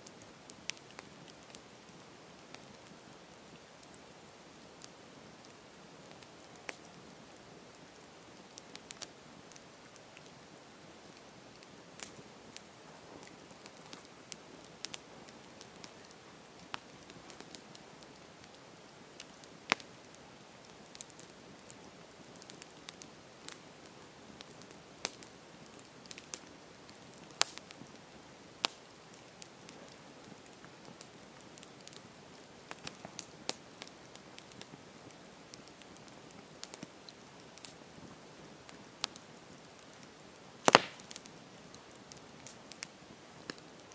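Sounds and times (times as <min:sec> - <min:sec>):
burning wood crackling and popping: 0:00.0 - 0:43.9
campfire hissing: 0:00.0 - 0:43.9.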